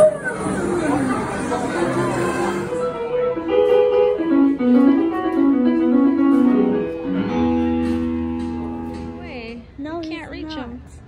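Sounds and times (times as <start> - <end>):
slow keyboard melody: 0.0 - 9.3.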